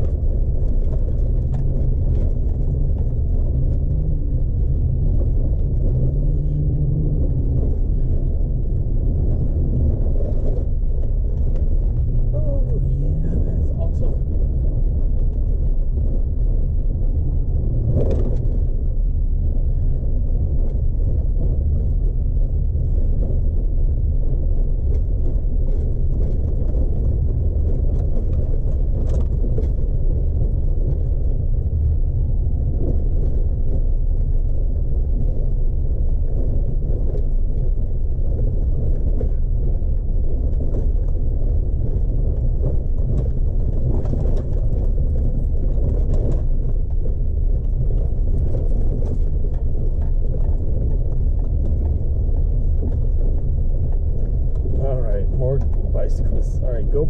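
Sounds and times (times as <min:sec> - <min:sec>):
vehicle engine and tyres rumbling: 0:00.0 - 0:57.0.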